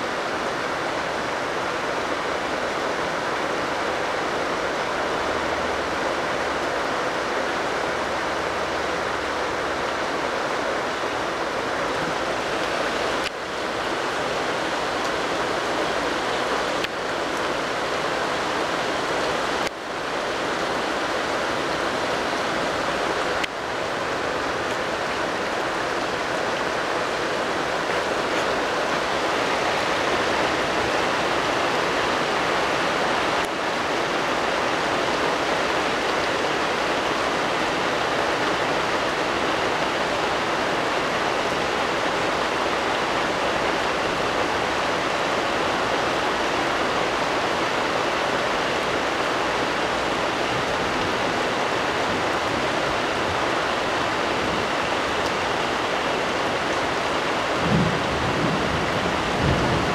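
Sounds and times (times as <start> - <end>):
heavy rain downpour: 0.0 - 59.9.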